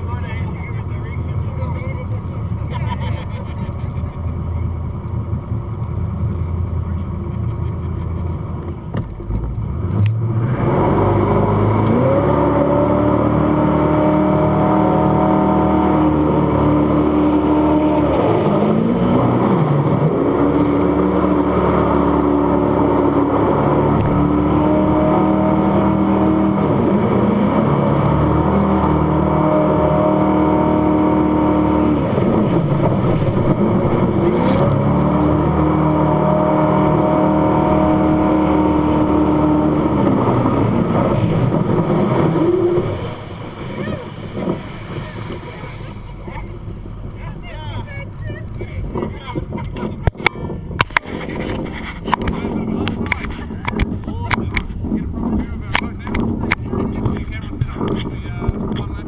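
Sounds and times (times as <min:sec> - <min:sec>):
boat engine revving: 0:00.0 - 0:59.0.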